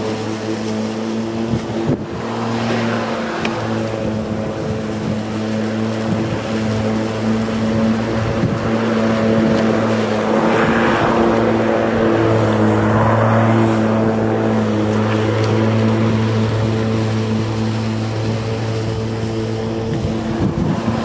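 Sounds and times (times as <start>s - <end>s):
electric lawnmower cutting grass: 0.0s - 21.0s.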